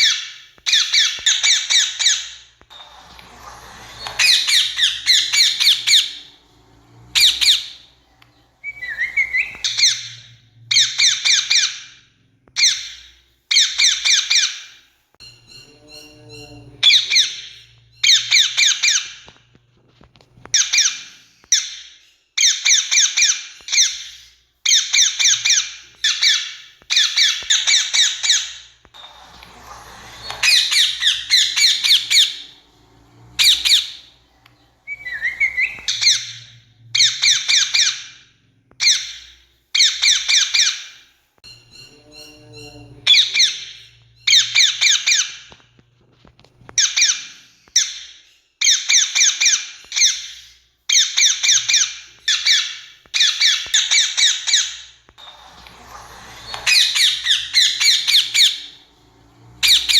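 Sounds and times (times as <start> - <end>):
parakeets screeching: 0.0 - 19.4, 20.1 - 45.6, 46.4 - 59.9.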